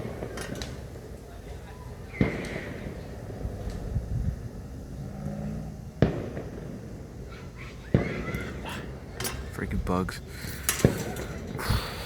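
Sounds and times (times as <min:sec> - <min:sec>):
fireworks bangs: 0:00.0 - 0:04.7, 0:06.0 - 0:12.0.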